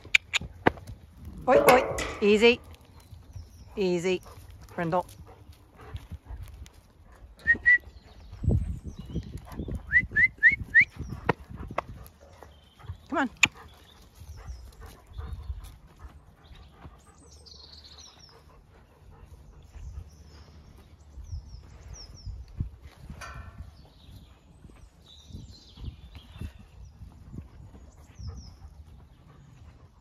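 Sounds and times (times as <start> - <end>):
faint birdsong: 0.0 - 9.9, 10.6 - 30.0
hooves knocking on ground: 0.0 - 30.0.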